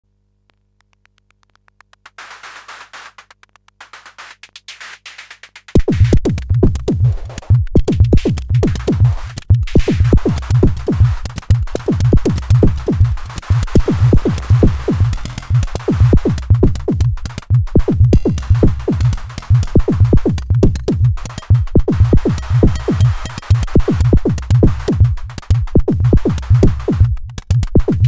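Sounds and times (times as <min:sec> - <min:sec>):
hissy electronic percussion: 0:01.4 - 0:28.0.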